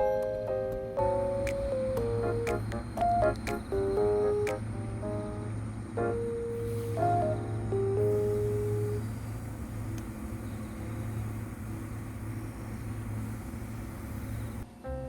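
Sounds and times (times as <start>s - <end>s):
low mechanical hum: 0.1s - 15.0s.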